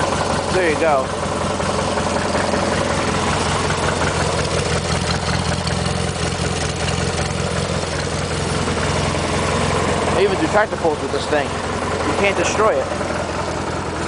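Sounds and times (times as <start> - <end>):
lawn tractor engine running: 0.0 - 14.0.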